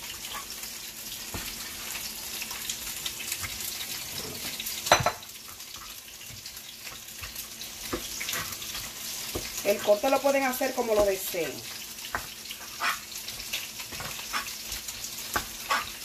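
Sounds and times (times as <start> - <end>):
oil sizzling in a pot: 0.0 - 16.0.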